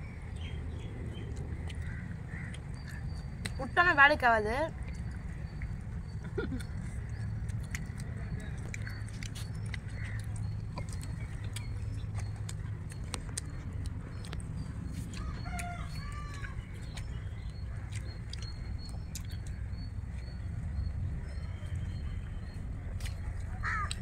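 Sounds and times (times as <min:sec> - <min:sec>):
small clicks of eating: 0:00.3 - 0:24.0.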